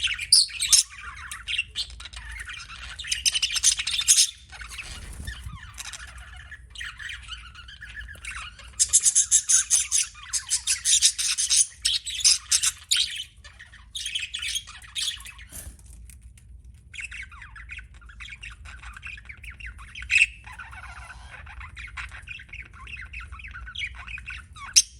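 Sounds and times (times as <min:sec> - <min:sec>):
budgerigar chirping and warbling: 0:00.0 - 0:15.4, 0:17.0 - 0:24.9.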